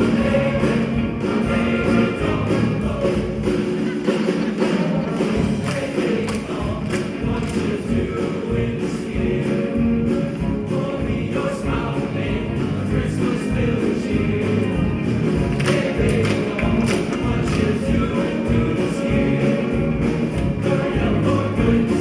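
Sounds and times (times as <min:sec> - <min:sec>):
children's choir singing: 0:00.0 - 0:22.0
instrumental accompaniment with beat: 0:00.0 - 0:22.0.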